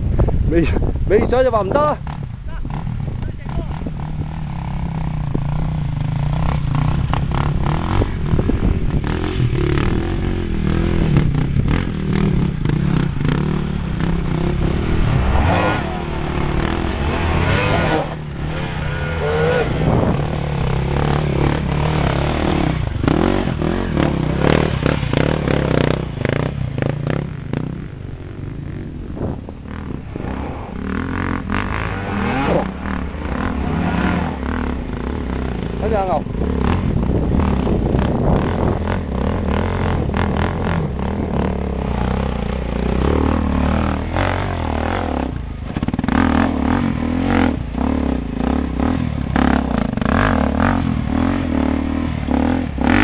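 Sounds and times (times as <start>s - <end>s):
dirt bike engine revving: 1.1s - 53.0s.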